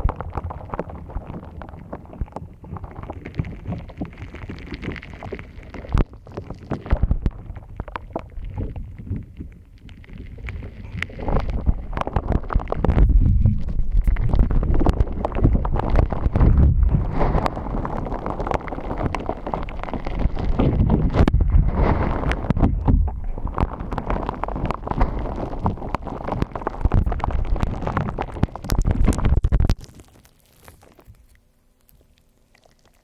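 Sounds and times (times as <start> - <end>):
hands squeezing crackling slime: 0.0 - 33.0.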